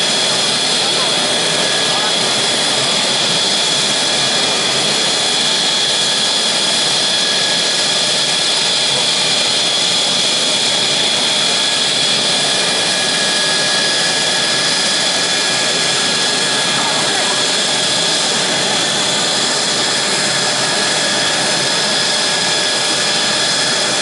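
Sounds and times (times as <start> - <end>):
jet engine roaring with whine: 0.0 - 24.0.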